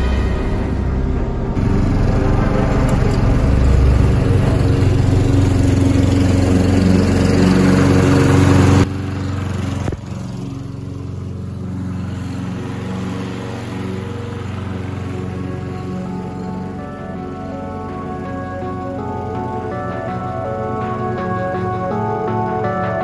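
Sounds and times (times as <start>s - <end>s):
background music: 0.0s - 8.9s, 12.2s - 23.0s
lawn mower engine running: 0.0s - 23.0s.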